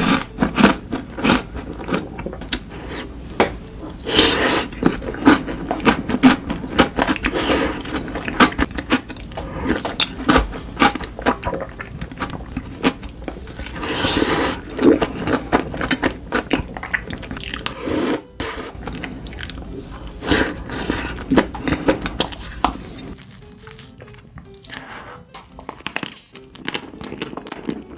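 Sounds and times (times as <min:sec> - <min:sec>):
chewing crunchy chocolate: 0:00.0 - 0:27.9.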